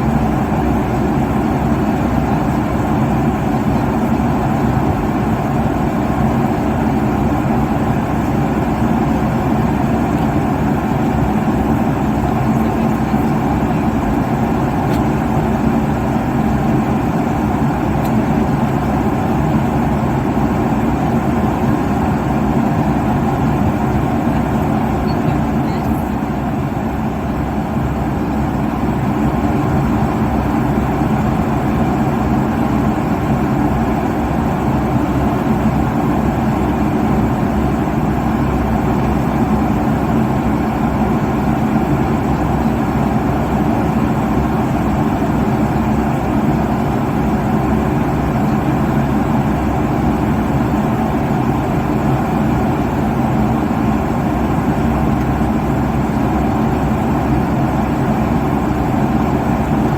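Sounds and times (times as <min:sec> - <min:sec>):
airliner cabin engine roar: 0:00.0 - 0:59.9.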